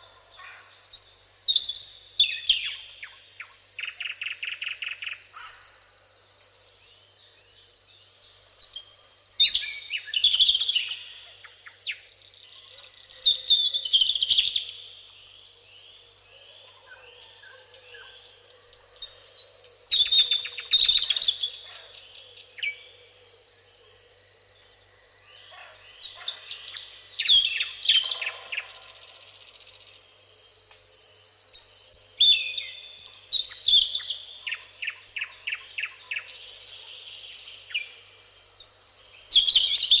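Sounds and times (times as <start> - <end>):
songbirds trilling and chirping: 0.0 - 40.0.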